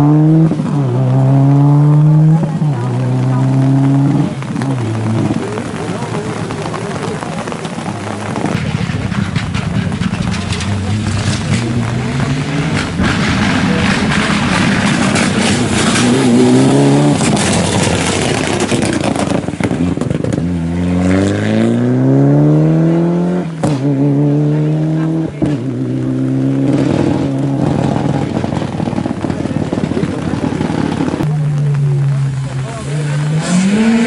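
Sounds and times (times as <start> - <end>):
rally car engine accelerating: 0.0 - 34.0.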